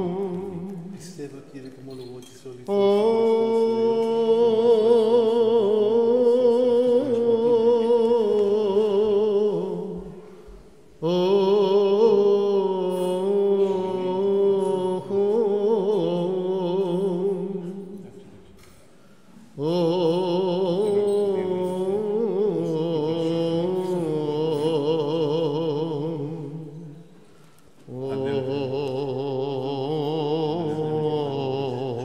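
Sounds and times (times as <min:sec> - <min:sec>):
man chanting: 0:00.0 - 0:10.1, 0:11.0 - 0:18.4, 0:19.6 - 0:27.0, 0:27.9 - 0:32.0.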